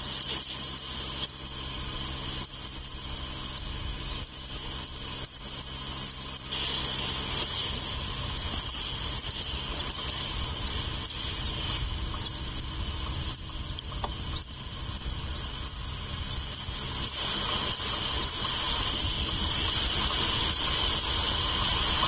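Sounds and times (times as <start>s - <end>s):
insect chorus trilling: 0.0s - 22.0s
low steady rumble: 0.0s - 22.0s.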